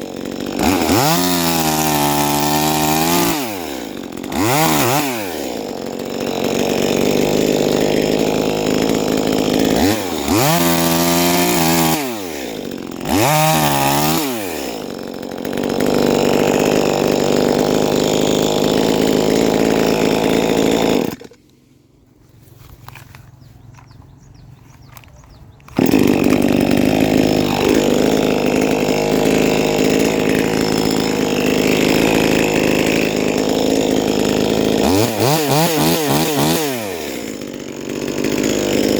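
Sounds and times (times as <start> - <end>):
chainsaw engine revving: 0.0 - 21.5, 25.0 - 38.9.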